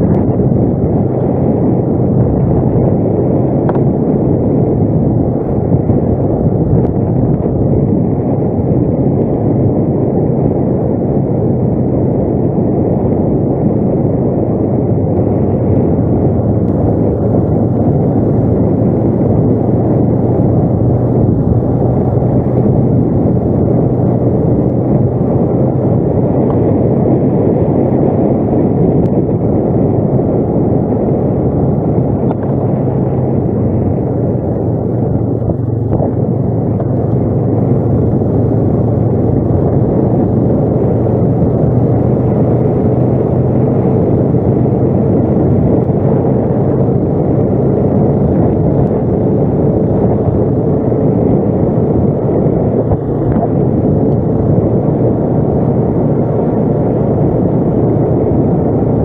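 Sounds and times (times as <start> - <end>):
atv engine droning: 0.0 - 59.0.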